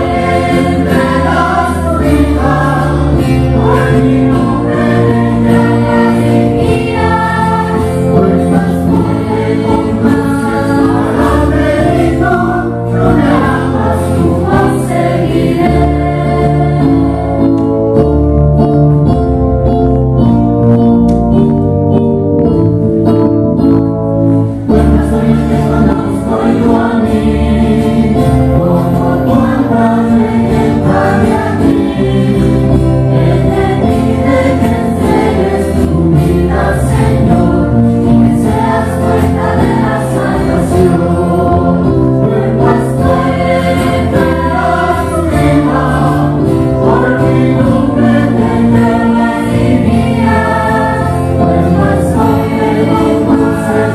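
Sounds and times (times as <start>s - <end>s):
choir singing a religious song: 0.0s - 17.8s, 24.6s - 53.9s
instrumental accompaniment: 0.0s - 53.9s.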